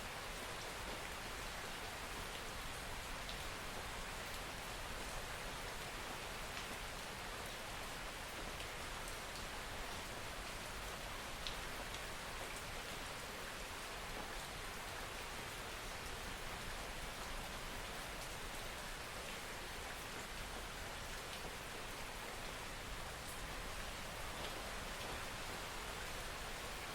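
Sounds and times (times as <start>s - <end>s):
soft rainfall hiss: 0.0s - 26.9s.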